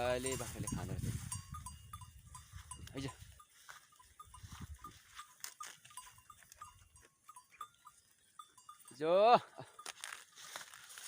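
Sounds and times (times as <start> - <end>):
goats feeding on grass: 0.0 - 9.0, 9.6 - 11.0.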